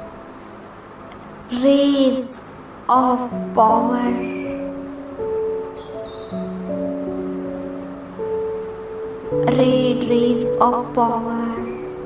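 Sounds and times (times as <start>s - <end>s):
soft slow meditation music: 0.0s - 12.0s.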